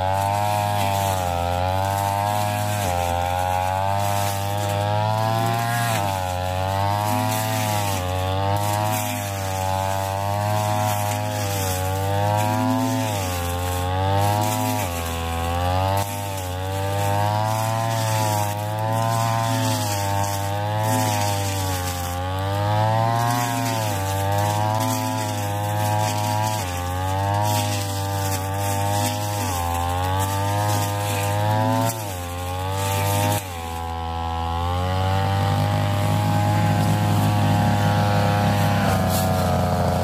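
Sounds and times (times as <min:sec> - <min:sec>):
brush cutter engine at high revs: 0:00.0 - 0:40.0.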